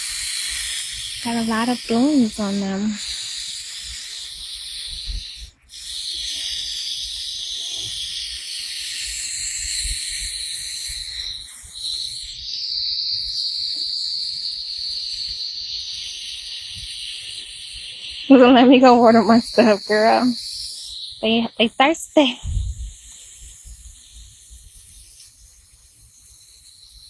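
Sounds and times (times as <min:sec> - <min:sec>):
insect chorus drone: 0:00.0 - 0:24.6.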